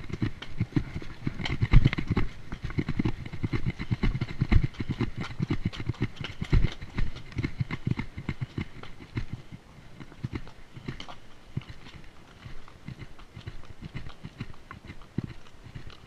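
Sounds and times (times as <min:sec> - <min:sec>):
hooves on rocky trail: 0:00.0 - 0:16.0.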